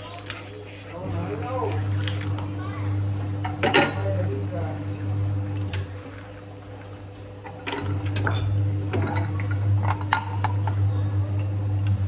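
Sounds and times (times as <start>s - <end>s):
steady low hum: 0.9s - 12.0s.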